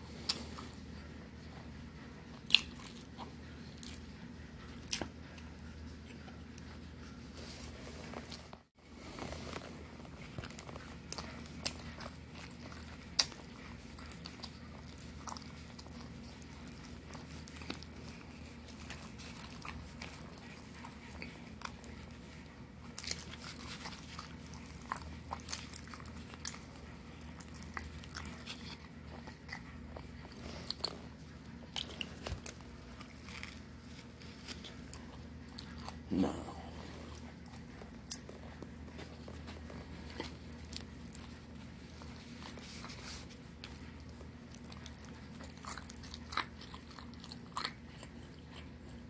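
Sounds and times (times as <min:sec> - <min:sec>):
person chewing bread: 0:00.0 - 0:49.0
steady low hum: 0:00.0 - 0:49.0.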